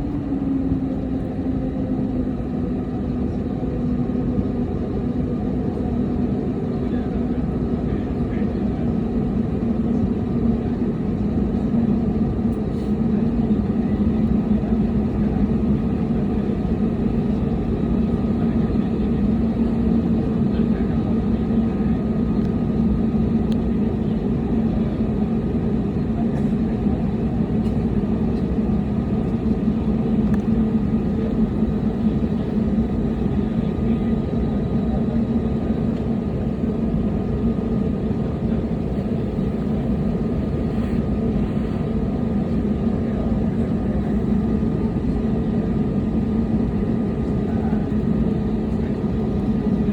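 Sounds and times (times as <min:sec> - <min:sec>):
jet engines droning in cabin: 0:00.0 - 0:49.9.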